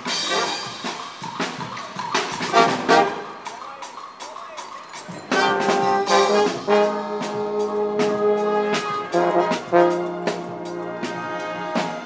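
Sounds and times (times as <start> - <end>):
brass band playing: 0.0 - 12.0
percussion hits: 0.0 - 12.0.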